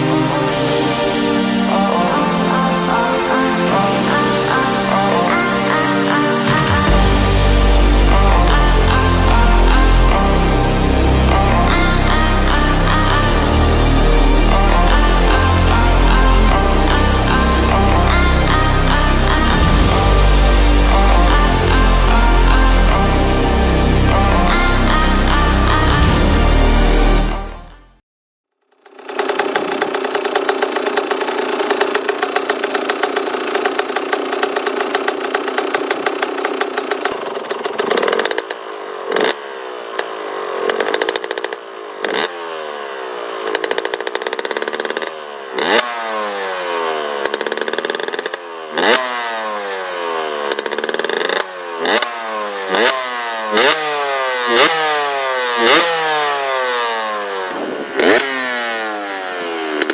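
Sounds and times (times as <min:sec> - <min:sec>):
dirt bike engine revving: 0:00.0 - 0:27.4, 0:28.7 - 0:59.9.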